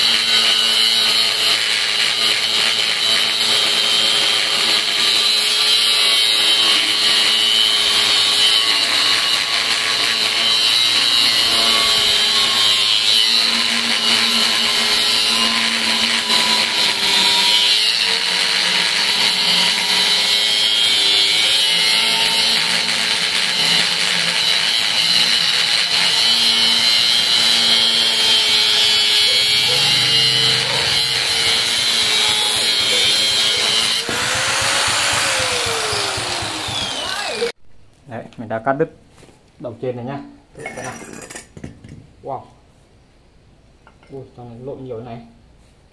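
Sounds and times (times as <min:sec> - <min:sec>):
angle grinder cutting steel: 0:00.0 - 0:37.6, 0:40.6 - 0:41.6.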